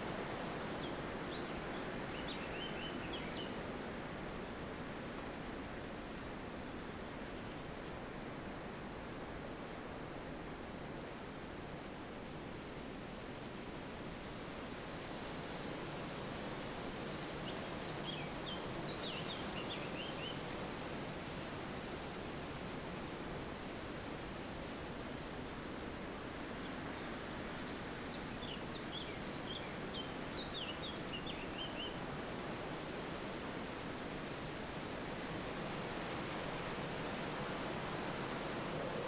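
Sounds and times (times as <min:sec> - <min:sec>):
wind through trees: 0:00.0 - 0:39.0.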